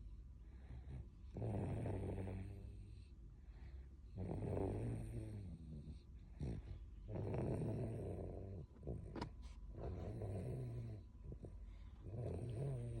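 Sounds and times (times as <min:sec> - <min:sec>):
toddler snoring: 0:01.3 - 0:03.0, 0:04.1 - 0:13.0.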